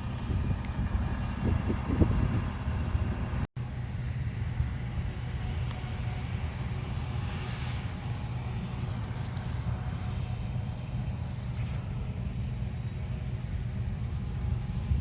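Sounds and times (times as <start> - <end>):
diesel machinery engine drone: 0.0 - 15.0.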